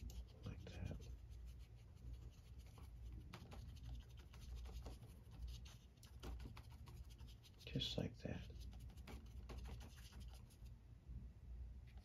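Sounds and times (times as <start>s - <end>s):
paintbrush strokes on paper: 0.0s - 10.7s
low room hum: 0.0s - 12.0s.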